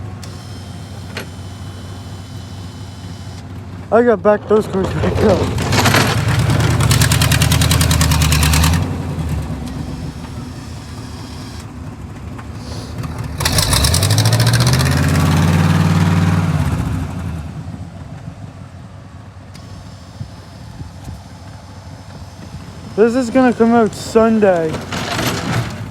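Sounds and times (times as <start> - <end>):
vehicle engine revving: 0.0 - 25.9.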